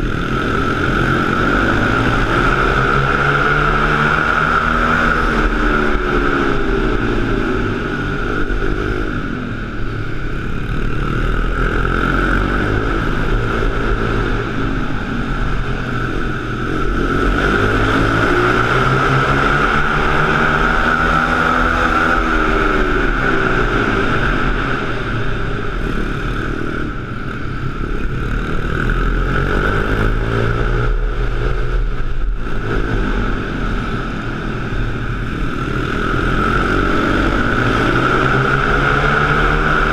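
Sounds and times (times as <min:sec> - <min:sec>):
pit bike engine revving: 0:00.0 - 0:39.9
steady high whine: 0:00.0 - 0:39.9.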